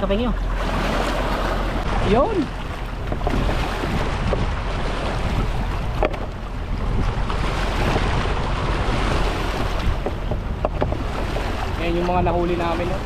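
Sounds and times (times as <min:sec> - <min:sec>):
waves splashing over rocks: 0:00.0 - 0:13.0
wind buffeting microphone: 0:00.0 - 0:13.0.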